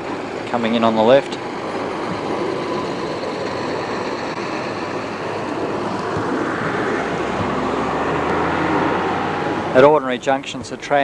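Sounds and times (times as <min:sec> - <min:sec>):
tram wheels and motors: 0:00.0 - 0:11.0.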